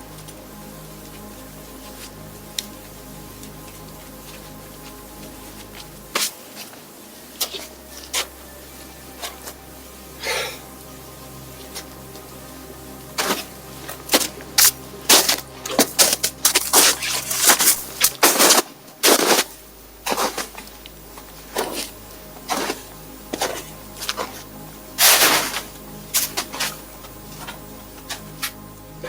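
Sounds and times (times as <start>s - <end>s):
soft background music: 0.0s - 29.0s.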